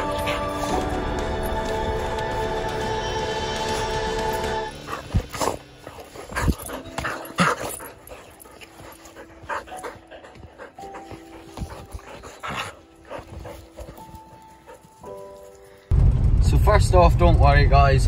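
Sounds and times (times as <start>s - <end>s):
dogs playing rough: 0.0s - 15.9s.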